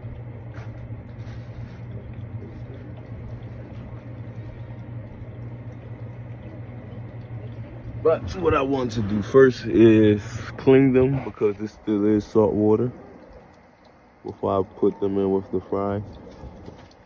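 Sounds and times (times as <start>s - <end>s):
air pump humming: 0.0s - 17.0s
water bubbling: 0.0s - 17.0s.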